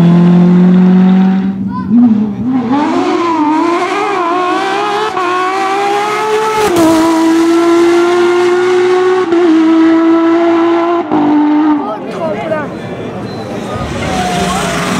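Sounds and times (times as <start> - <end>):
car engine accelerating hard: 0.0 - 12.0, 13.7 - 14.9.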